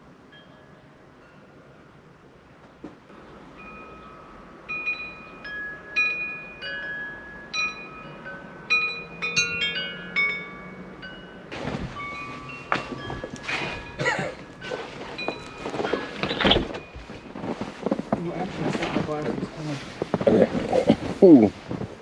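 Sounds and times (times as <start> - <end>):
wind chimes ringing: 0.0 - 2.2, 3.1 - 19.6.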